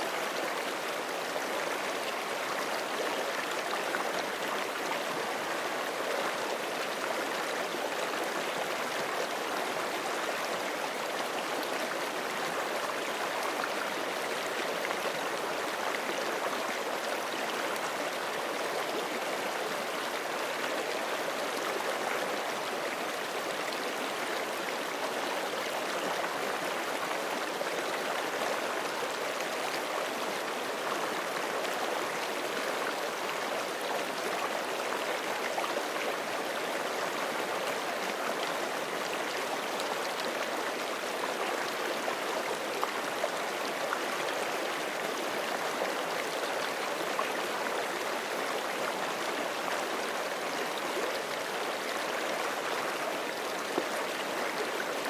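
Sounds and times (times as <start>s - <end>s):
creek running over rocks: 0.0s - 55.0s.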